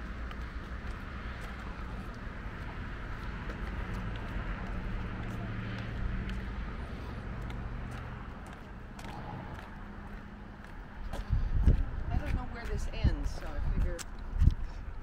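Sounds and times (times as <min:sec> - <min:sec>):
footsteps on concrete: 0:00.0 - 0:15.0.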